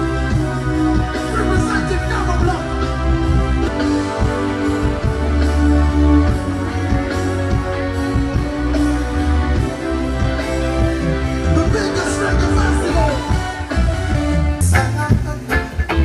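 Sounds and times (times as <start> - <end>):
bass line: 0.0 - 16.0
guitar: 0.0 - 16.0
live band playing: 0.0 - 16.0.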